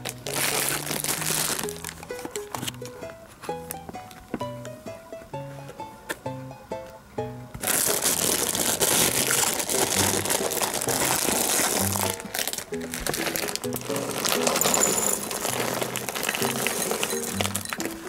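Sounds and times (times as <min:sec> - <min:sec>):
music with plucked bass notes: 0:00.0 - 0:18.0.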